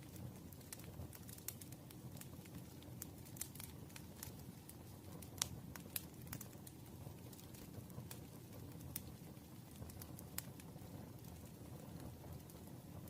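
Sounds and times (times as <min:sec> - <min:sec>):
campfire crackling and popping: 0:00.0 - 0:13.0
low rumble of flames: 0:00.0 - 0:13.0.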